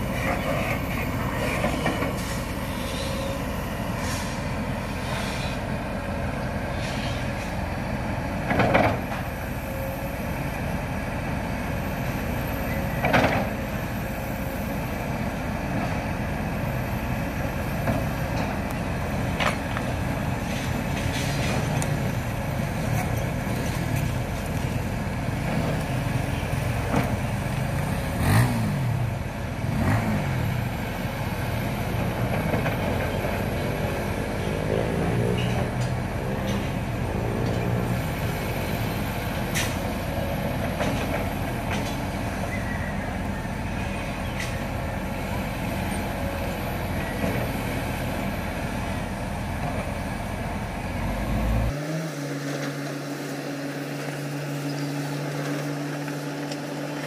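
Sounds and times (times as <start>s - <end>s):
heavy machinery diesel rumble: 0.0s - 57.0s.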